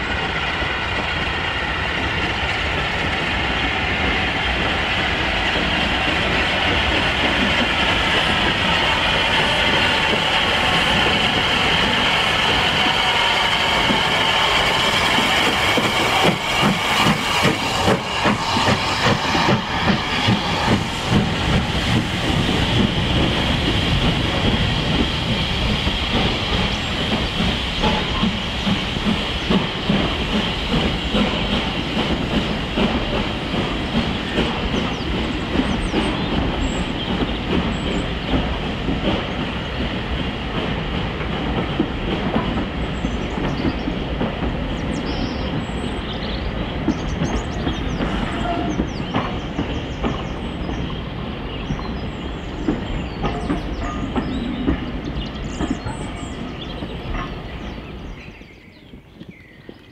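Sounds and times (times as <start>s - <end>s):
steam hiss: 0.0s - 57.9s
train wheels clicking over rail joints: 0.2s - 59.9s.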